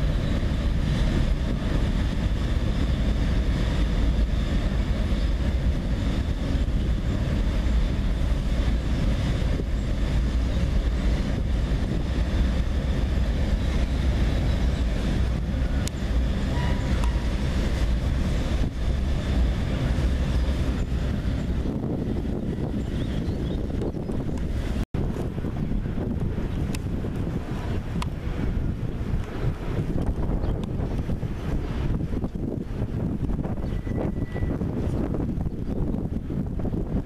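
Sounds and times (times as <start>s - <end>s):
train wheels rumbling on bridge: 0.0s - 37.0s.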